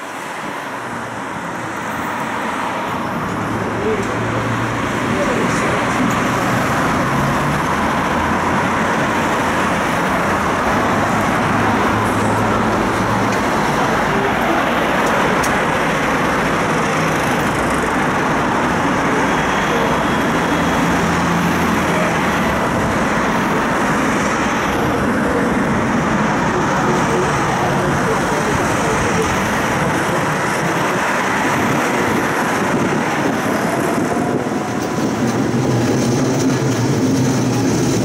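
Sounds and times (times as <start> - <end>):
city road traffic: 0.0 - 38.0.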